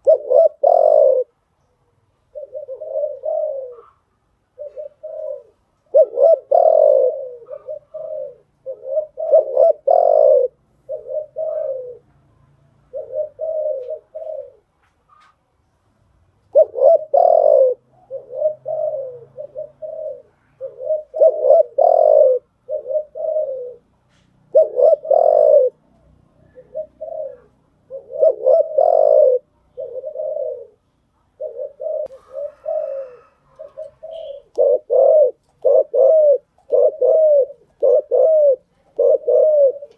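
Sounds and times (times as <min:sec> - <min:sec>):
dove cooing: 0:00.0 - 0:01.4, 0:02.1 - 0:12.2, 0:12.8 - 0:15.4, 0:16.4 - 0:39.9.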